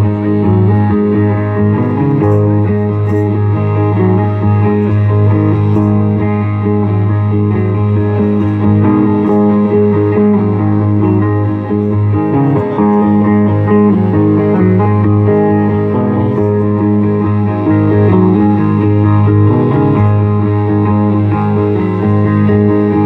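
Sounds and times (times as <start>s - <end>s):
amplified electric guitar: 0.0s - 23.0s.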